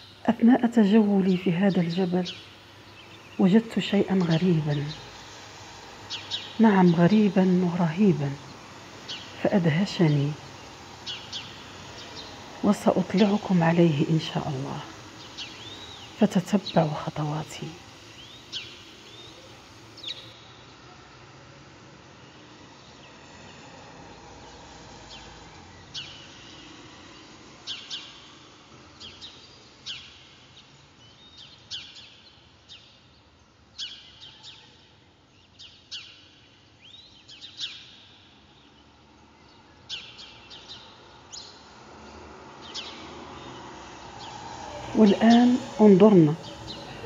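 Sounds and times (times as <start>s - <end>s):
wild birds chirping: 0.0s - 20.7s, 29.0s - 47.0s
faint outdoor background: 0.0s - 47.0s.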